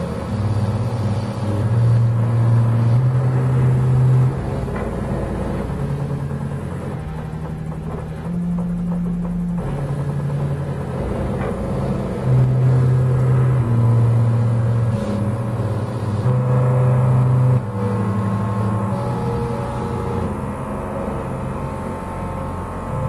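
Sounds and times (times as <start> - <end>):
stepper motors humming: 0.0 - 23.0.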